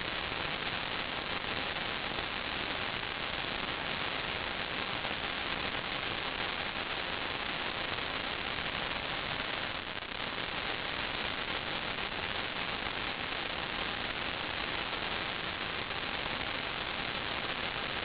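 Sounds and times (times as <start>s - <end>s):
static hiss: 0.0s - 18.0s.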